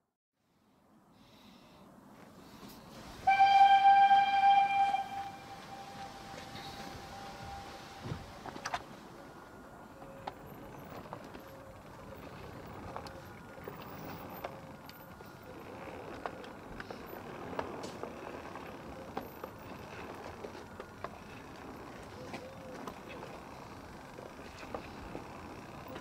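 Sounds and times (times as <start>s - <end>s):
train rolling: 2.4s - 26.0s
wheels clicking and clanking: 2.6s - 26.0s.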